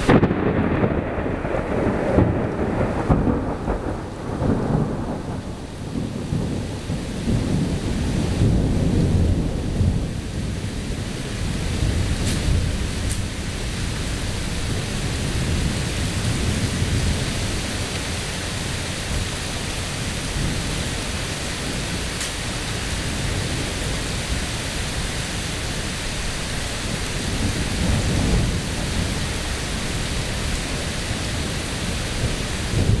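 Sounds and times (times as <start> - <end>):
rain falling: 0.0 - 33.0
thunder rumbling: 0.0 - 33.0.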